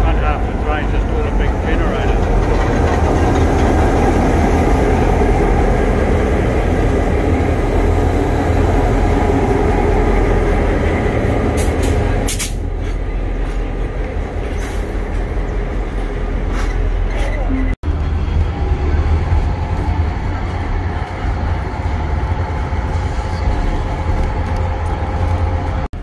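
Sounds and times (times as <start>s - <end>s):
carriages rolling by: 0.0s - 26.0s
diesel locomotive engines rumbling: 0.0s - 26.0s.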